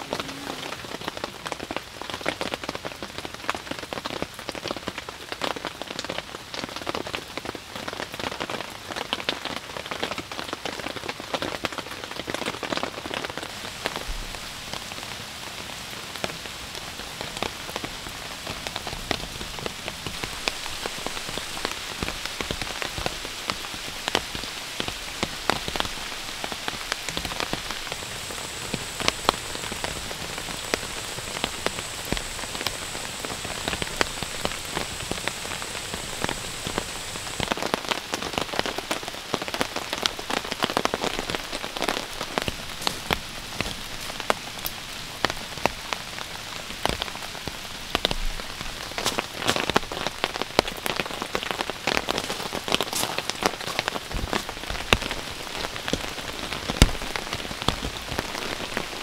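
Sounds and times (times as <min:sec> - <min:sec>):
rain falling on leaves: 0:00.0 - 0:59.0
sharp raindrops striking: 0:00.0 - 0:59.0.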